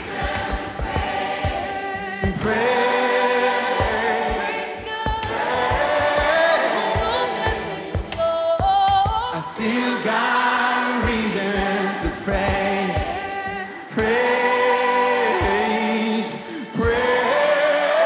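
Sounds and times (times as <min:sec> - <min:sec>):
choir singing gospel song: 0:00.0 - 0:18.0.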